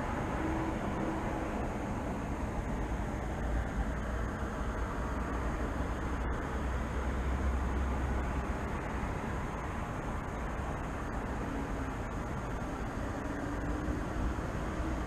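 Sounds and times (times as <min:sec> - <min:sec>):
city traffic hum: 0:00.0 - 0:15.0.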